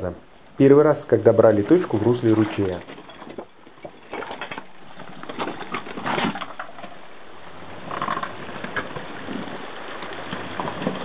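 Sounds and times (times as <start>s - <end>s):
stones crunching under tyres: 1.2s - 11.0s.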